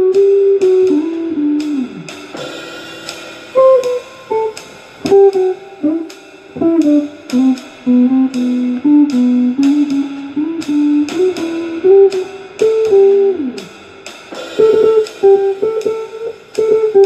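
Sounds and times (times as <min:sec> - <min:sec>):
electric guitar lead lines: 0:00.0 - 0:17.0.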